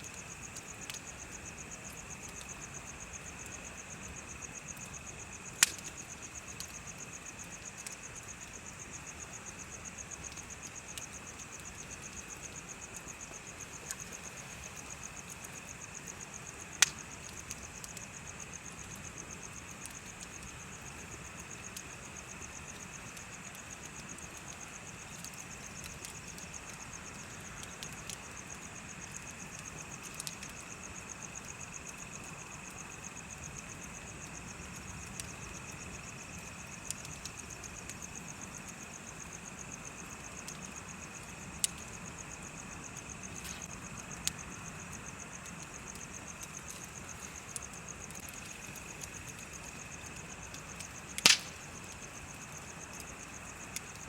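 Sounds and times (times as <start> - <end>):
bonfire crackling and popping: 0.0 - 54.0
insects chirping: 0.0 - 54.0.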